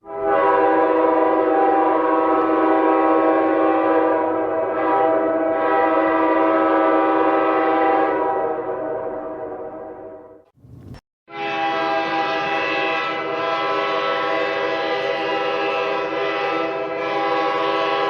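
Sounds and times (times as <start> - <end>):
train horn blast: 0.0 - 10.5, 11.3 - 18.0.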